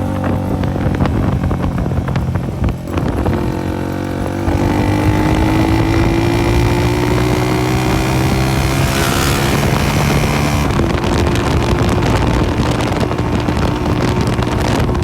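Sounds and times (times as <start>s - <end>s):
exhaust crackling and popping: 0.0s - 15.0s
motorcycle engine open exhaust: 0.0s - 15.0s.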